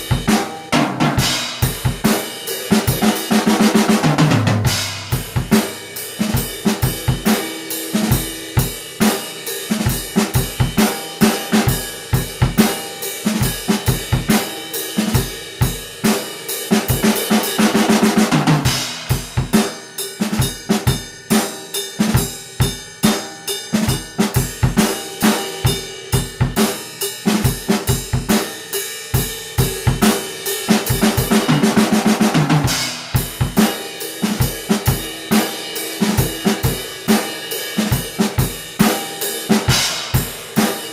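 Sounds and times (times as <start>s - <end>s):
drum kit playing rock beat: 0.0s - 40.9s.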